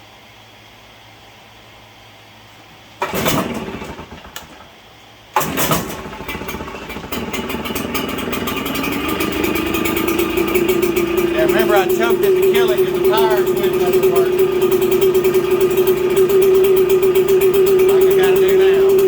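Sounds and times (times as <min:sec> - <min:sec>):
leaf blower engine running: 0:03.0 - 0:19.0.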